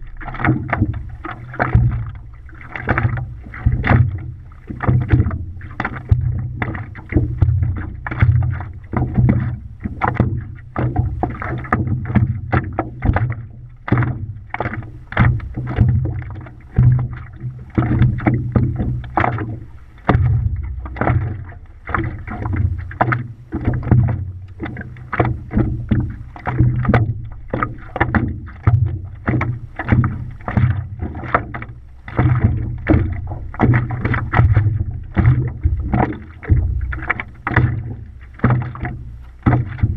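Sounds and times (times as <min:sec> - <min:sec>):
steady low rumble: 0:00.0 - 0:39.9
water lapping and slapping: 0:00.0 - 0:39.9.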